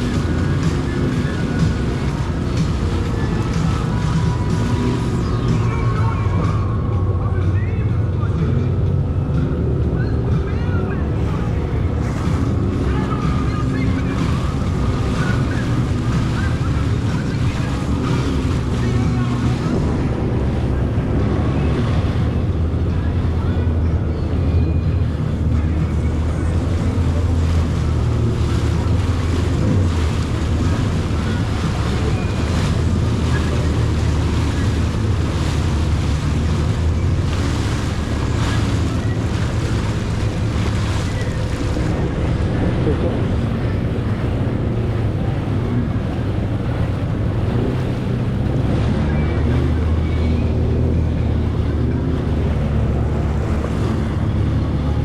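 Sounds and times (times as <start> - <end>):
jet ski engine running: 0.0 - 55.0
water rushing: 0.0 - 55.0
wind buffeting microphone: 0.0 - 55.0.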